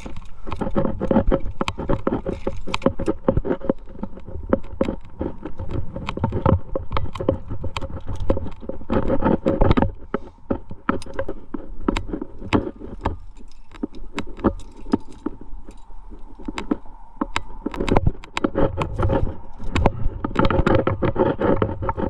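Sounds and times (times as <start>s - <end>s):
metal climbing gear clinking: 0.0s - 22.0s
wind rumble on microphone: 0.0s - 22.0s.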